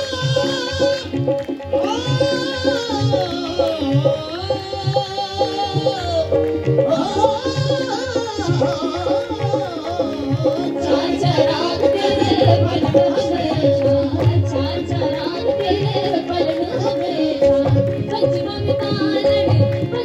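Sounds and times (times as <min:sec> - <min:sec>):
harmonium drone: 0:00.0 - 0:20.0
tabla beat: 0:00.0 - 0:20.0
woman singing: 0:00.0 - 0:20.0.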